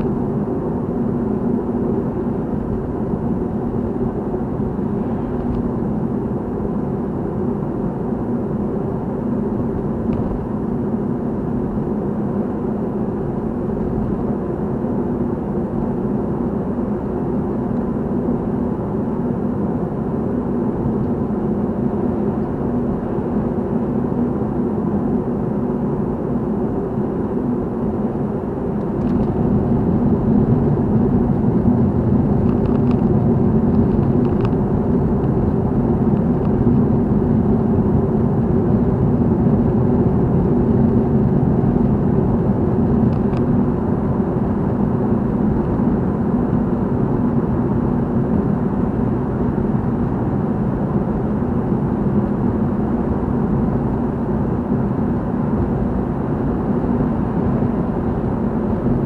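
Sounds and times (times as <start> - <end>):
engine and tyre drone in car: 0.0 - 59.0.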